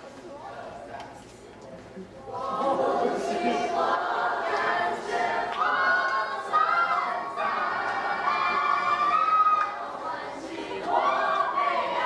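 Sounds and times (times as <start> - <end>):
group of voices singing: 2.3 - 12.0.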